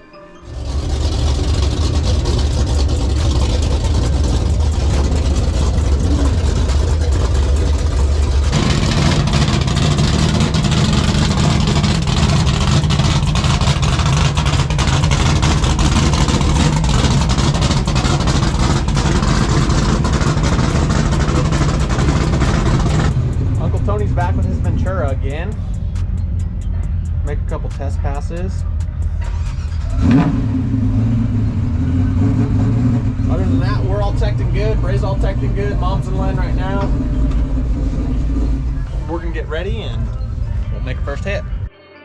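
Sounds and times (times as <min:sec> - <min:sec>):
vehicle engine and road noise: 0:00.0 - 0:41.7.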